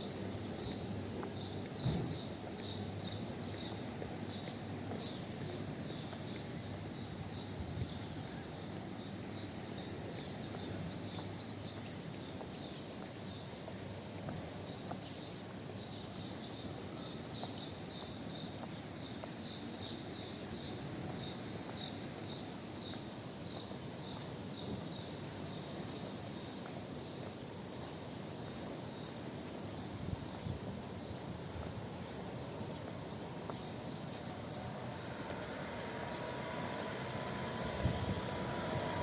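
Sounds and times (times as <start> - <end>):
low outdoor background: 0.0 - 39.0.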